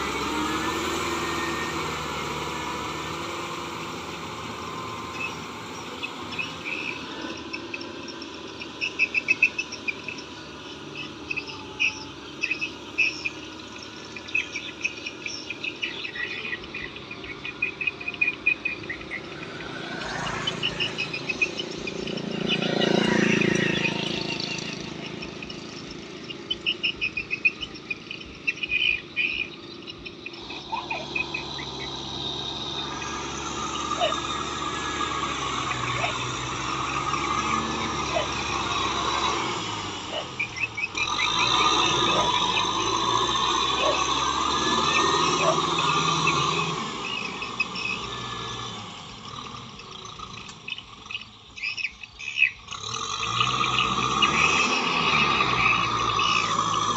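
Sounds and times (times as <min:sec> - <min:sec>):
insects chirping: 0:00.0 - 0:56.9
tractor engine hum: 0:00.0 - 0:56.9.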